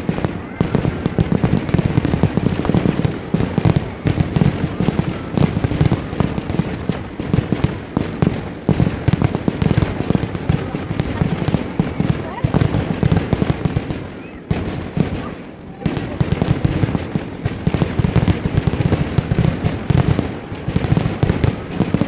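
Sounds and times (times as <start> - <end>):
firecracker bangs: 0.0 - 22.0.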